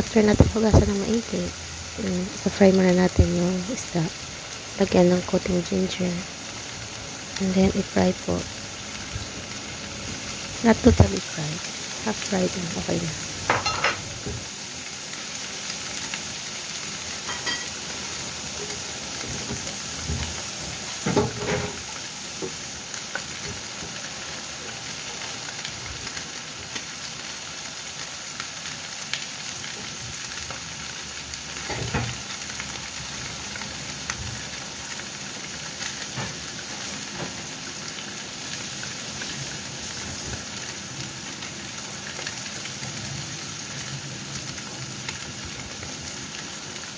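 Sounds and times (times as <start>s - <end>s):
fish sizzling in a pan: 0.0s - 46.9s.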